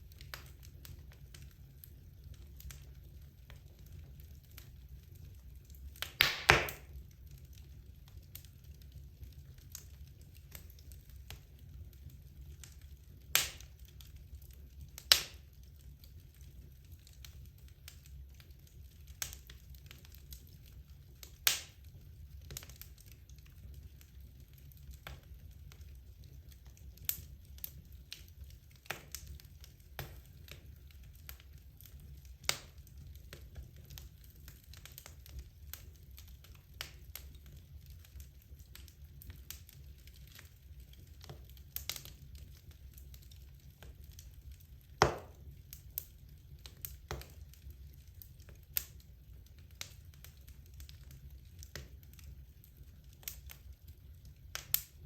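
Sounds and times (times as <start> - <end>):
sharp pops from burning logs: 0.0 - 55.0
wood fire burning: 0.0 - 55.0.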